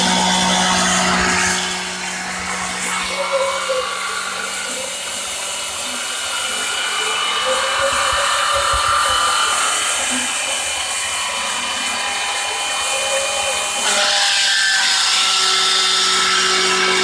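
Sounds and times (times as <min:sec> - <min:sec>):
power tool whining: 0:00.0 - 0:17.0.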